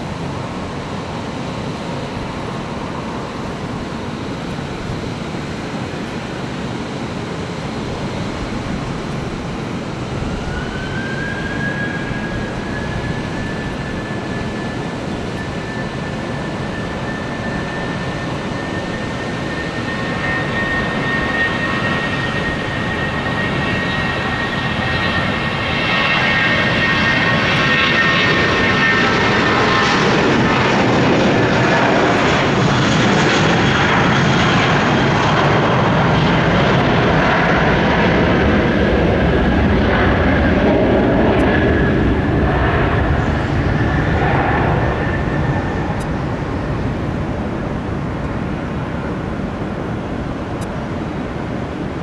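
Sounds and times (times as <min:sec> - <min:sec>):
jet engines roaring with whine: 0:00.0 - 0:52.0.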